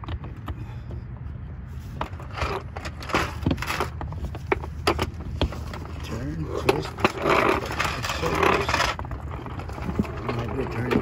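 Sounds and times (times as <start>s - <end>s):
steady low rumble: 0.0s - 11.0s
plastic scraping and clicking: 2.0s - 11.0s.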